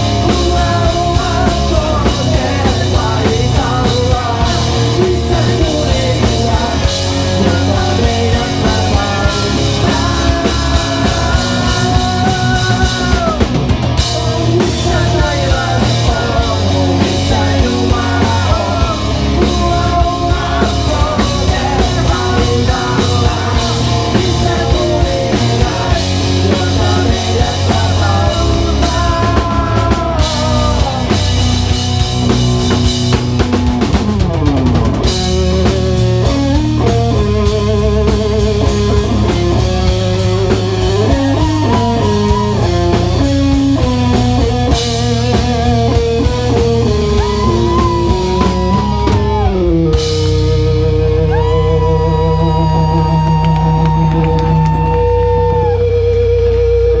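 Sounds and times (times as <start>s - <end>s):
bass guitar: 0.0s - 57.0s
drums: 0.0s - 57.0s
electric guitar: 0.0s - 57.0s.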